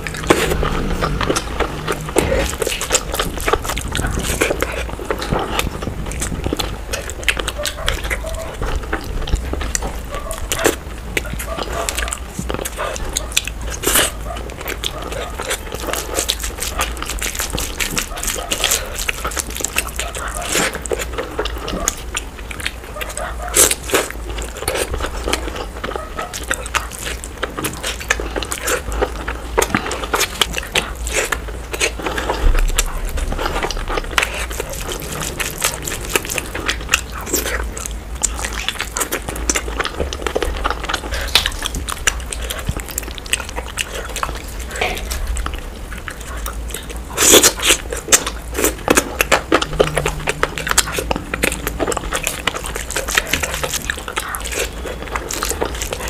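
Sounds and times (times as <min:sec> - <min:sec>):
wet chewing and biting: 0:00.0 - 0:56.0.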